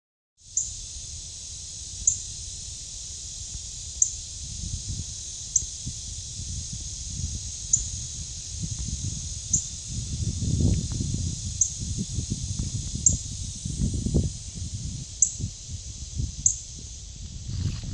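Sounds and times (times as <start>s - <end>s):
insect drone: 0.4s - 17.9s.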